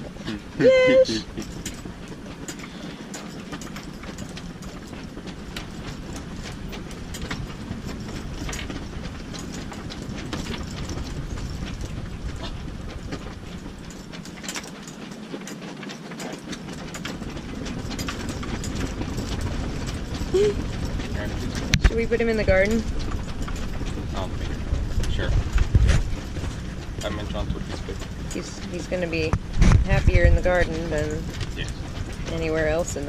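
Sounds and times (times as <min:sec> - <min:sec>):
scattered clicks and knocks: 0:01.3 - 0:33.0.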